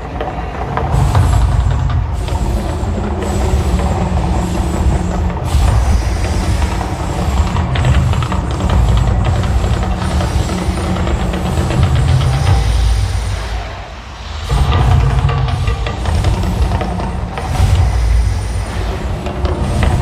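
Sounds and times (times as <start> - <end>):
low rumble: 0.0 - 20.0
rushing hiss: 0.0 - 20.0.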